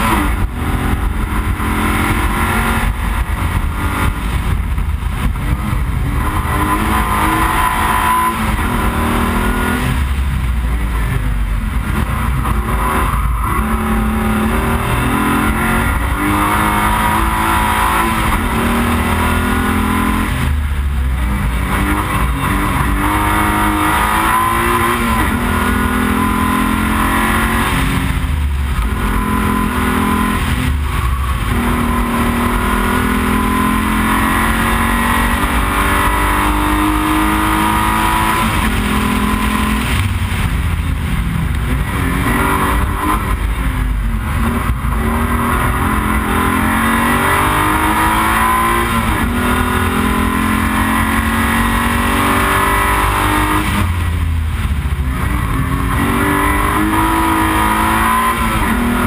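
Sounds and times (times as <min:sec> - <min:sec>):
car engine at full throttle: 0:00.0 - 0:59.0
road and wind noise: 0:00.0 - 0:59.0.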